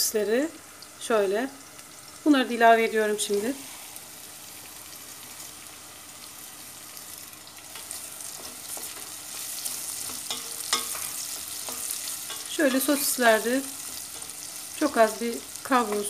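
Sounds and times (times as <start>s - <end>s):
sausages sizzling in hot oil: 0.0s - 16.0s.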